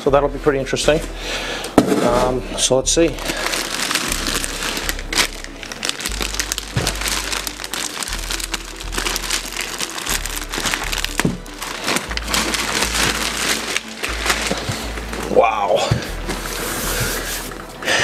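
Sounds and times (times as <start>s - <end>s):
background music with deep bass: 0.0s - 18.0s
plastic wrapping crinkling: 3.0s - 17.6s.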